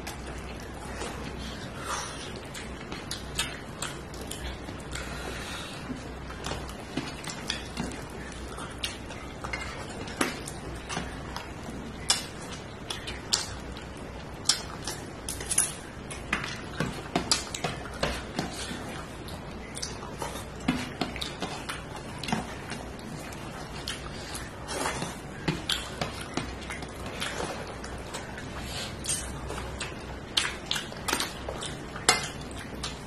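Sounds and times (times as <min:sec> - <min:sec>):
chewing and mouth noises: 0:00.0 - 0:33.0.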